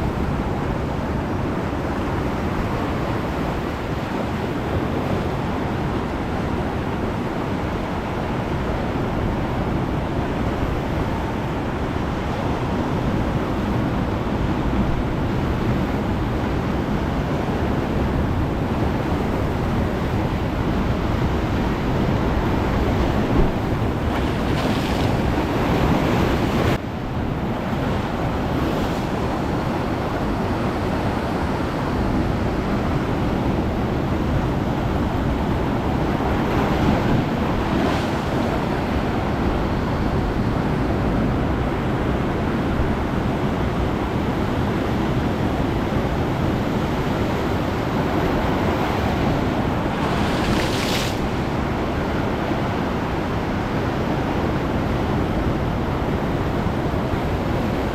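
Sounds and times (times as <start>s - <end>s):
ocean surf washing onto beach: 0.0s - 57.9s
wind buffeting microphone: 0.0s - 57.9s.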